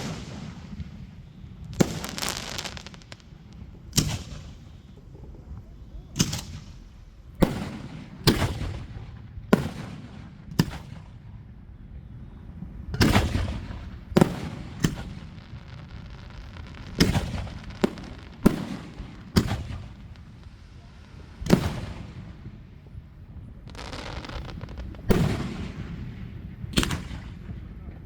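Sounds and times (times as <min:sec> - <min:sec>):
fireworks booming with echo: 0:00.0 - 0:28.0.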